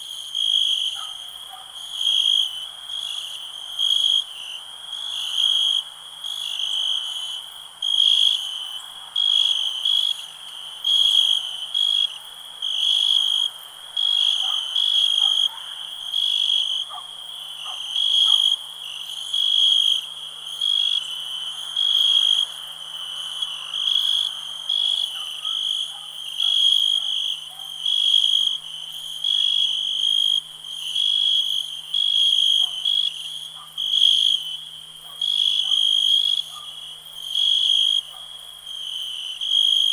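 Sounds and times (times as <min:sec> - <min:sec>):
background cricket chorus: 0:00.0 - 0:39.9
cricket chirping: 0:00.0 - 0:39.9.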